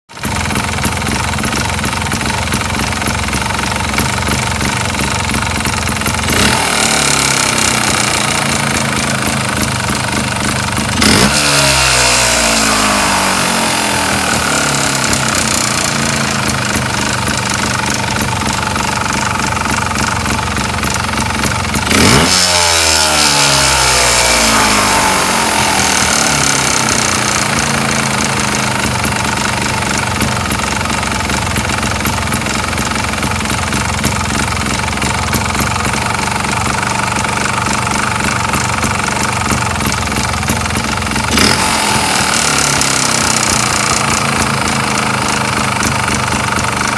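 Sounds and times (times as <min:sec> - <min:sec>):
motorcycle engine idling: 0:00.1 - 0:46.9
motorcycle engine revving: 0:00.1 - 0:46.9
rapid rattling knock: 0:00.2 - 0:11.0, 0:14.6 - 0:22.0, 0:26.0 - 0:46.9.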